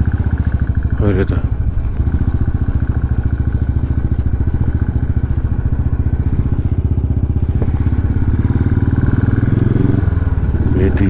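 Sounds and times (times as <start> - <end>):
motorcycle engine chugging: 0.0 - 11.0.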